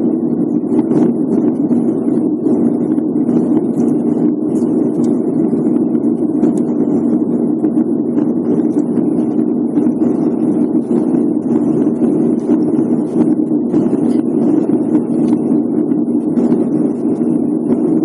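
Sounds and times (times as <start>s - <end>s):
airflow noise: 0.0s - 18.0s
airliner cabin engine drone: 0.0s - 18.0s
constant low hum: 0.0s - 18.0s.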